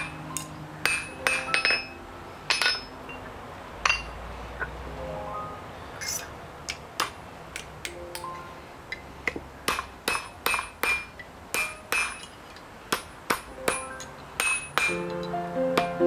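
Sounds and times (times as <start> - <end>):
hammer striking metal on anvil: 0.0 - 3.2, 3.8 - 4.7, 6.0 - 16.0.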